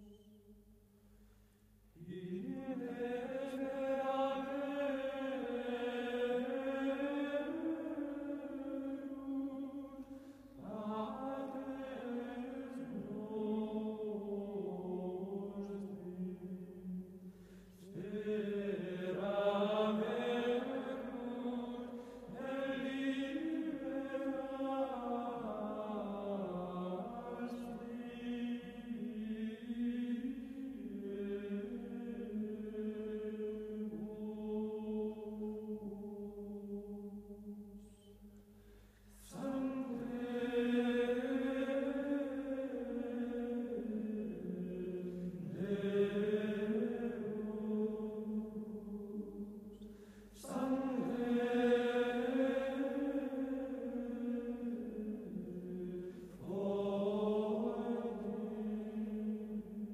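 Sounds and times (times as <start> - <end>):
slow vocal chant: 0.0 - 59.9.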